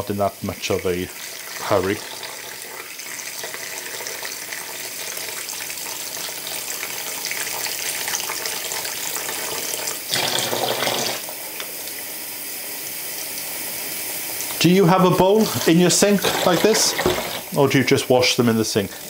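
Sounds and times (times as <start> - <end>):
tap water running into bowl: 0.3 - 12.1, 12.9 - 19.0.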